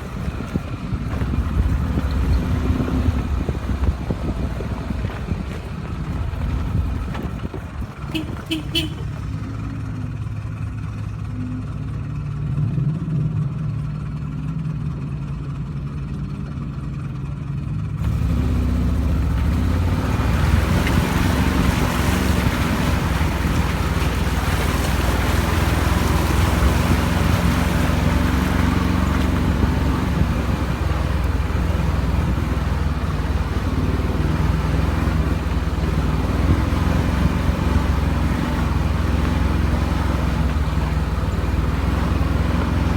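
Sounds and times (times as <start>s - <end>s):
vehicle engine humming: 0.0s - 42.9s.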